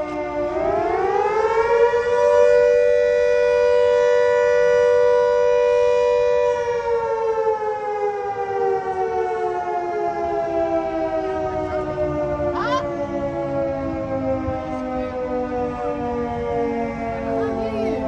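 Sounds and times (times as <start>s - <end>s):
warning siren: 0.0s - 18.0s.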